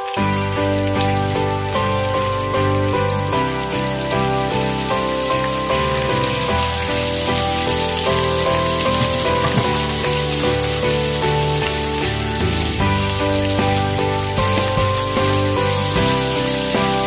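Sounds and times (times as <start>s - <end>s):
background music with held notes: 0.0s - 17.0s
food sizzling in a frying pan: 1.8s - 17.0s.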